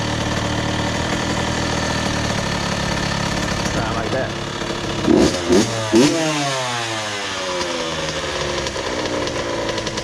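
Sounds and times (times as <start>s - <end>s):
two-stroke engine revving and idling: 0.0s - 10.0s.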